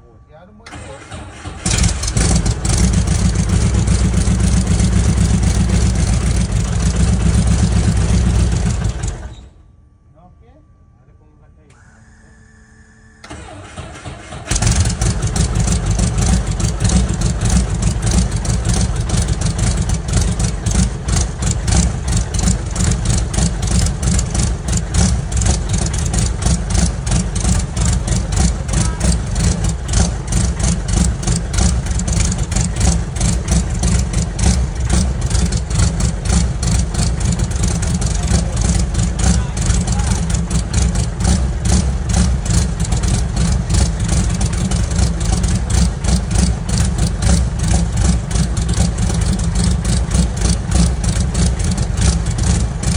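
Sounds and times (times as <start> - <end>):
helicopter piston engine starting: 0.6 - 9.5, 11.7 - 47.8
engine running with pulsing beat: 1.6 - 9.3, 14.4 - 52.9.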